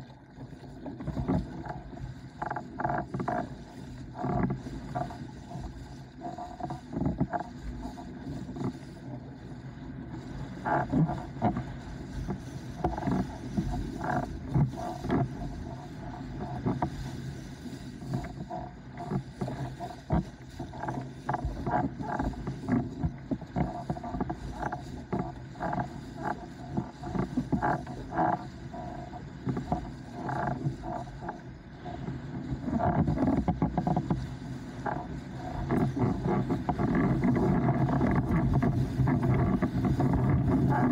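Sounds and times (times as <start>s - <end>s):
board slapping on waves: 0.0s - 40.9s
water rushing under board: 0.0s - 40.9s.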